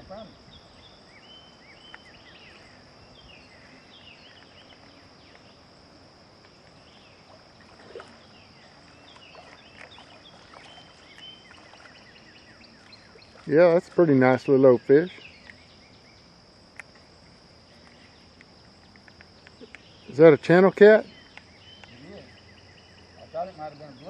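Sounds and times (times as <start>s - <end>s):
birds chirping: 0.0s - 6.0s, 6.6s - 24.0s
high-pitched insect drone: 0.0s - 24.0s.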